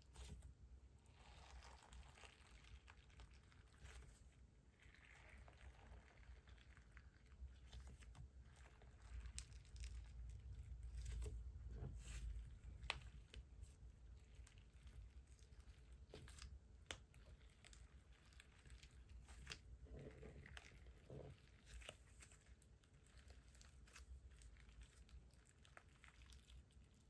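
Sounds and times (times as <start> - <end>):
slime squishing and crackling: 0.0 - 27.0.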